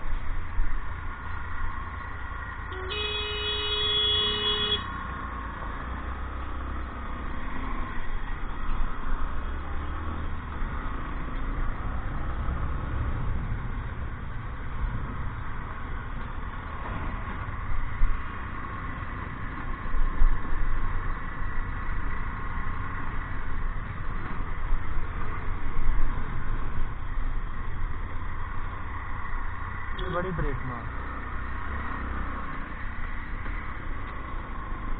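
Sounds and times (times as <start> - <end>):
road noise rumble: 0.0 - 34.9.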